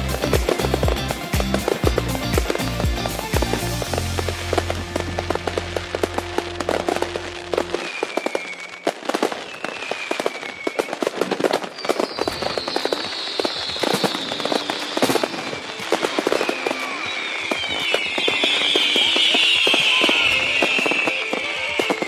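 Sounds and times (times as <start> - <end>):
fireworks crackling and banging: 0.0 - 22.0
whistling fireworks: 0.0 - 22.0.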